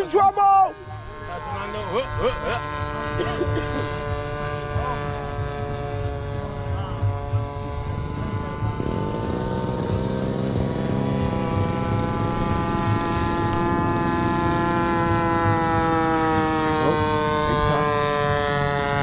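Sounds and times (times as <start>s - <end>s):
model airplane engine running: 0.0s - 19.0s.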